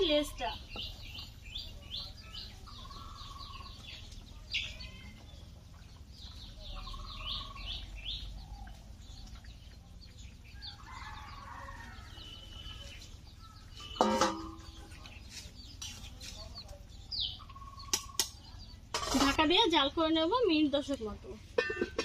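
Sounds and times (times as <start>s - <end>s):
chickens clucking: 0.0s - 19.8s
small birds chirping: 0.0s - 22.0s.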